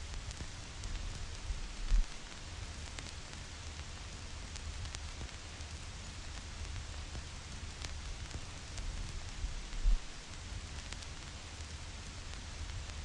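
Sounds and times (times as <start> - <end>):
record hiss: 0.0 - 13.0
vinyl record crackle: 0.0 - 13.0.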